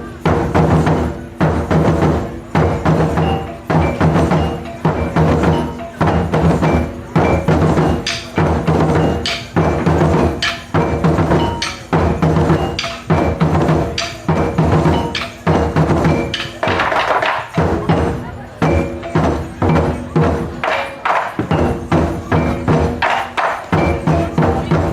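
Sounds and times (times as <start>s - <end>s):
taiko drums playing: 0.0s - 24.9s.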